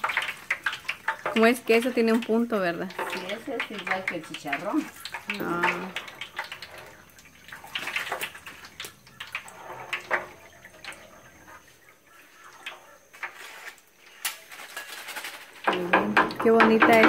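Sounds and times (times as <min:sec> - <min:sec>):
oil sizzling with crackles and pops: 0:00.0 - 0:17.0.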